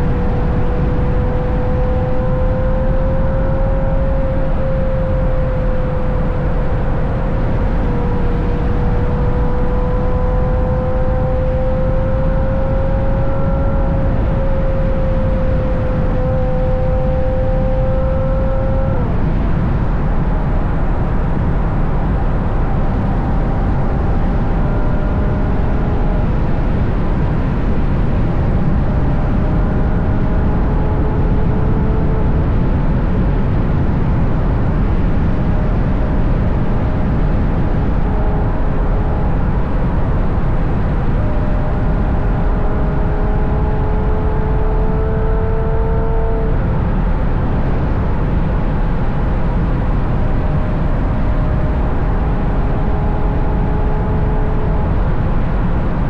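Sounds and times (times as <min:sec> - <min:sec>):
car engine cruising: 0:00.0 - 0:56.0
road rumble: 0:00.0 - 0:56.0
wind noise on microphone: 0:00.0 - 0:56.0.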